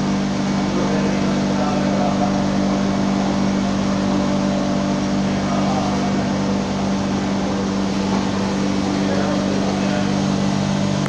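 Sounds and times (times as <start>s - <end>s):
machinery humming and whirring: 0.0s - 11.0s.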